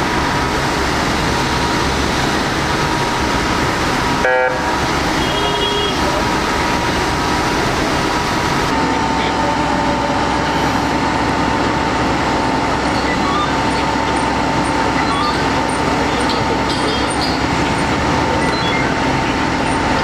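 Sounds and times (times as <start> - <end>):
constant high whine: 0.0 - 20.0
fire engines droning: 0.0 - 20.0.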